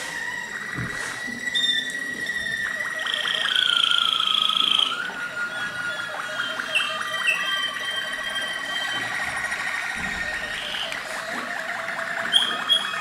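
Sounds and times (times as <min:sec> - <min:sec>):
canaries singing: 0:00.0 - 0:13.0.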